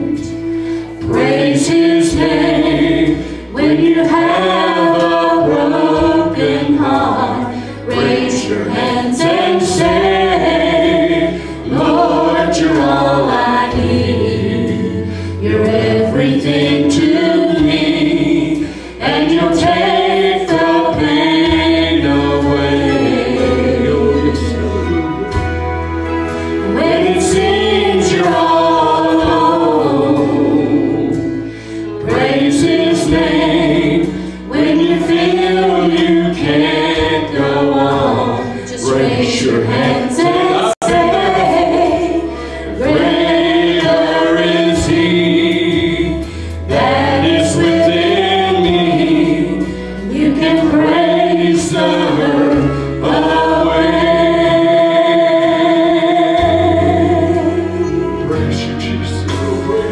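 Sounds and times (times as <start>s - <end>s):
group singing praise song: 0.0s - 59.9s
instrumental accompaniment: 0.0s - 59.9s.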